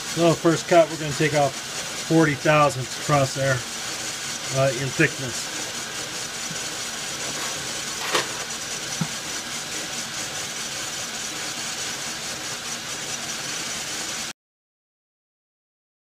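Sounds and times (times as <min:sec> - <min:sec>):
metal lathe machining: 0:00.0 - 0:14.3.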